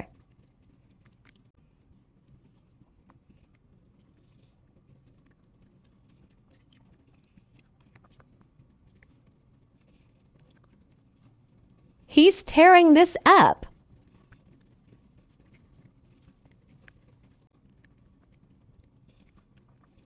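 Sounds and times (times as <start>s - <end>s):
dog chewing food: 0.1s - 12.0s, 13.7s - 20.0s.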